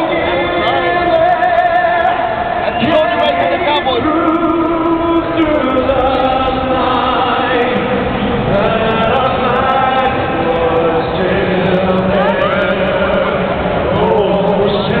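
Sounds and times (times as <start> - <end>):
crowd noise: 0.0 - 15.0
crowd singing together: 0.0 - 15.0.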